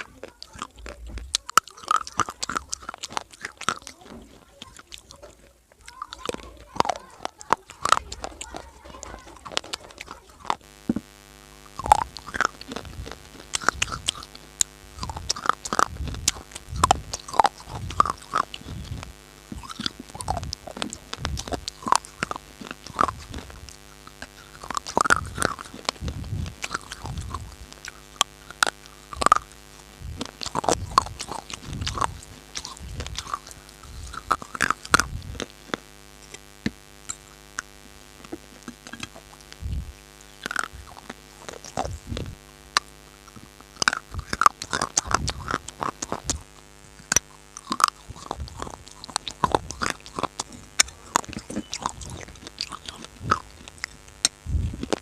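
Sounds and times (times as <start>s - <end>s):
crunching hard clay: 0.0s - 55.0s
steady hum: 0.0s - 55.0s.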